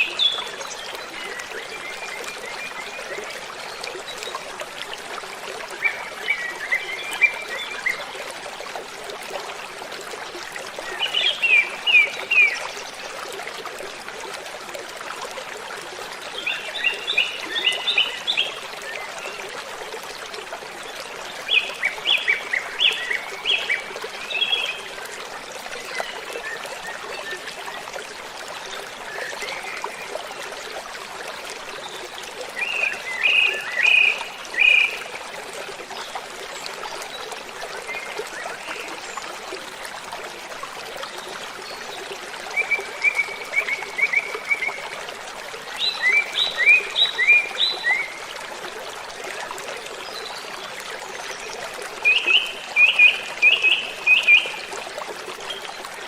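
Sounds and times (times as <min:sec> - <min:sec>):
rush of falling water: 0:00.0 - 0:56.0.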